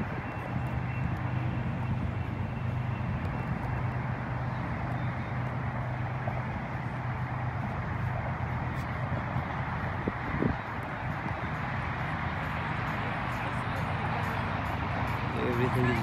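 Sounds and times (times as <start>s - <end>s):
constant low hum: 0.0s - 16.0s.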